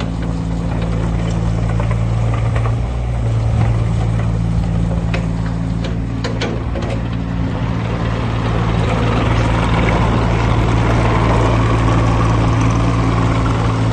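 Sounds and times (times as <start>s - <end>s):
diesel engine running: 0.0s - 13.9s
high engine whine: 0.0s - 13.9s.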